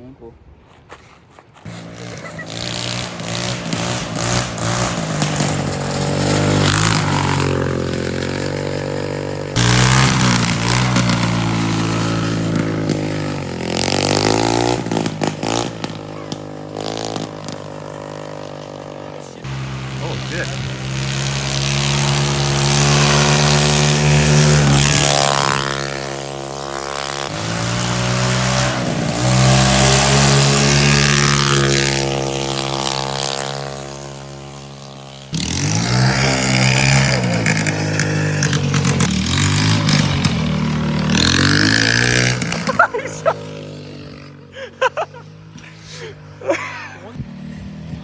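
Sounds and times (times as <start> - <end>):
lawnmower engine running: 1.6 - 48.0
engine revving on and off: 1.7 - 48.0.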